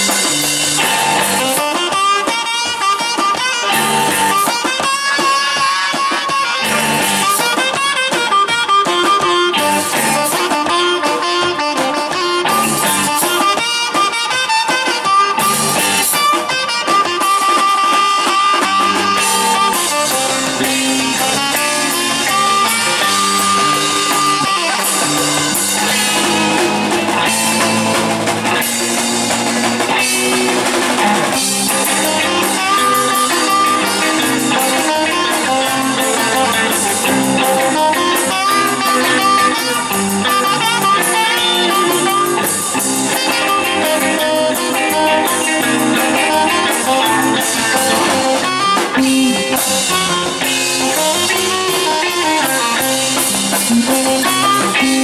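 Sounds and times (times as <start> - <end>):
electric bass: 0.0 - 1.9, 3.6 - 4.6, 6.6 - 7.6, 9.2 - 13.4, 15.3 - 16.4, 18.6 - 55.0
drum kit: 0.0 - 55.0
electric guitar: 0.0 - 55.0
saxophone: 0.0 - 55.0.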